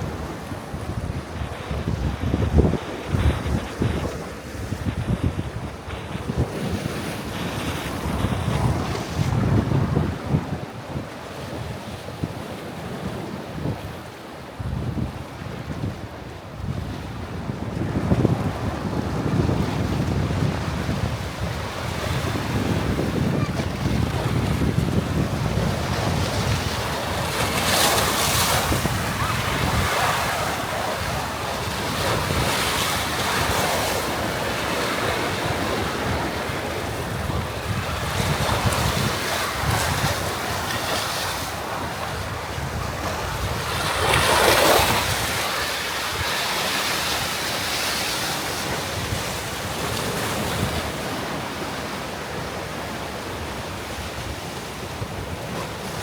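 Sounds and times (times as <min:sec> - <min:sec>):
sea waves washing onto beach: 0:00.0 - 0:56.0
wind buffeting microphone: 0:00.0 - 0:56.0.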